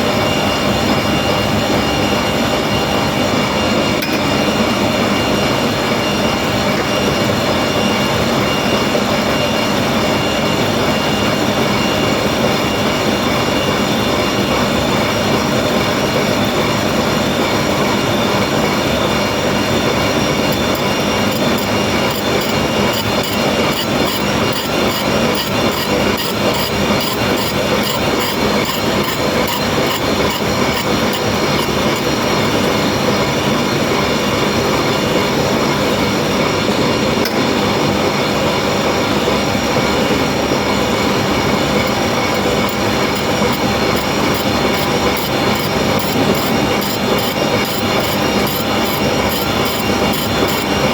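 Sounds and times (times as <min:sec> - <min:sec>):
grinding machine whining: 0:00.0 - 0:50.9.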